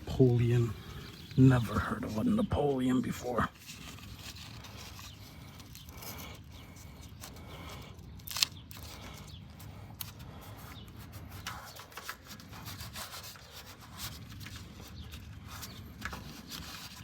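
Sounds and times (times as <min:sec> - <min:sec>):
rubbing and scraping handling noise: 0:00.0 - 0:17.0.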